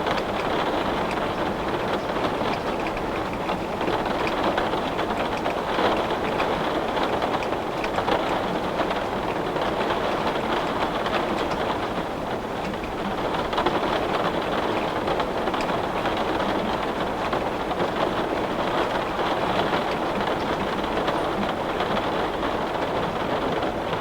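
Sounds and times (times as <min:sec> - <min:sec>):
heavy rain on window: 0:00.0 - 0:24.0.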